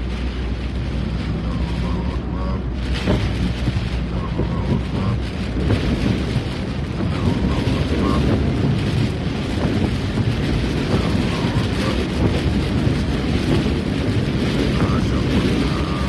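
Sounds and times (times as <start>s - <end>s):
rain on windshield: 0.0s - 16.0s
tyre and engine rumble: 0.0s - 16.0s.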